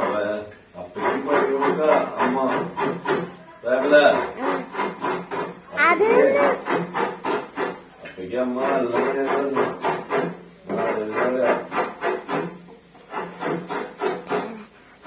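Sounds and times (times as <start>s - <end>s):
rhythmic rasping strokes: 0.0s - 7.8s, 8.4s - 15.0s.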